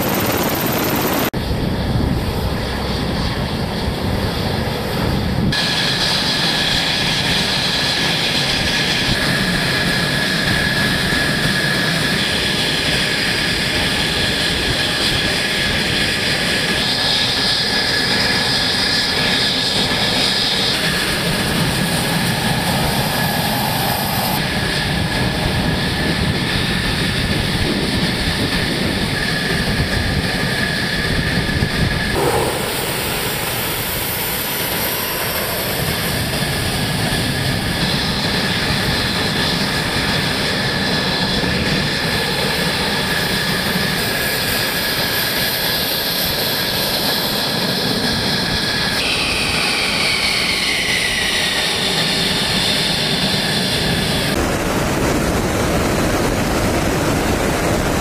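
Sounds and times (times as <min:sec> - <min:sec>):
fighter jet engines running: 0:00.0 - 0:58.0.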